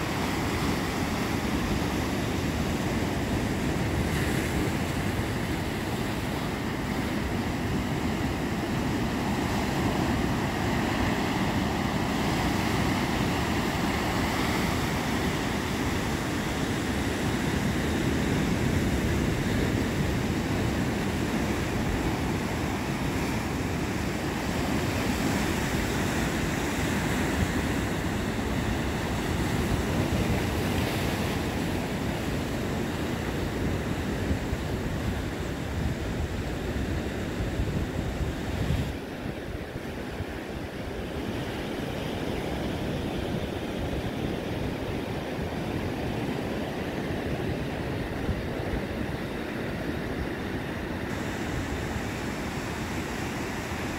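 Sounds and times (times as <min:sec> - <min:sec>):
surf breaking on rocky shore: 0:00.0 - 0:53.9
wind on microphone: 0:00.0 - 0:53.9.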